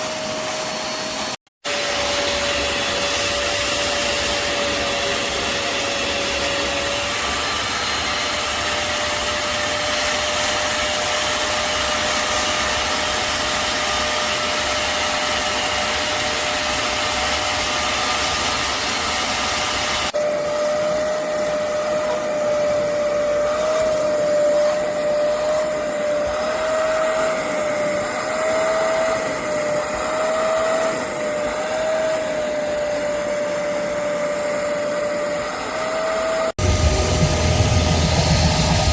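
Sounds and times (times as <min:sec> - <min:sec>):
suction motor whine and hiss: 0:00.0 - 0:38.9.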